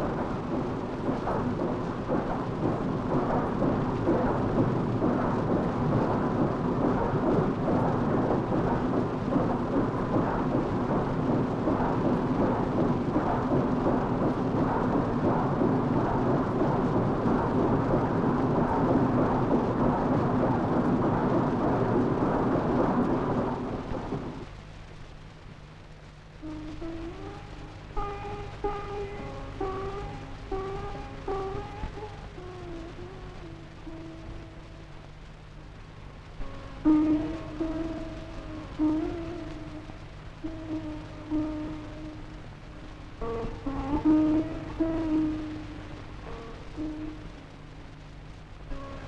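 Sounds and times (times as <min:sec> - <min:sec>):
dense rushing noise: 0:00.0 - 0:49.0.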